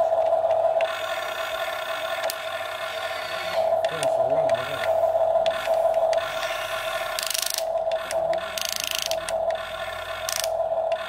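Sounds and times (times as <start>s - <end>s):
toy electric motors whining: 0.0s - 11.0s.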